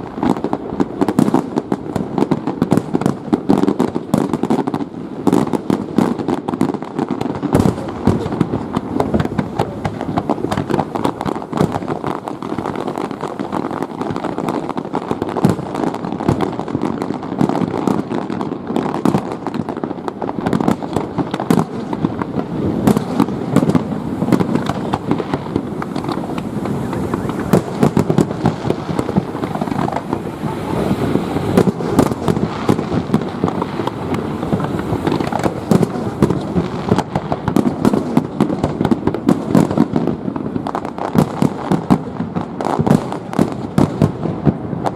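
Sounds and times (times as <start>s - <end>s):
fireworks bangs and crackles: 0.0s - 44.9s
rumble of fireworks bursts: 0.0s - 44.9s.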